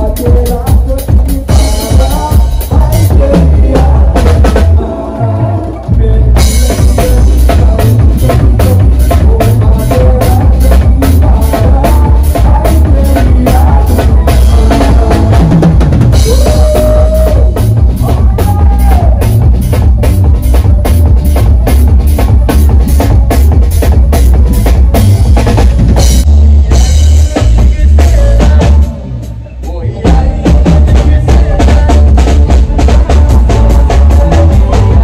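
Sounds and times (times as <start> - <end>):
bass guitar: 0.0 - 35.0
drum kit quick steady beat: 0.0 - 35.0
live band playing loud music: 0.0 - 35.0.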